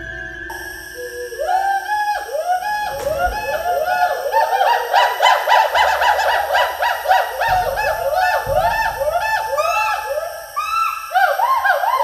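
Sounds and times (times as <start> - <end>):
gibbon whooping calls: 0.5 - 12.0.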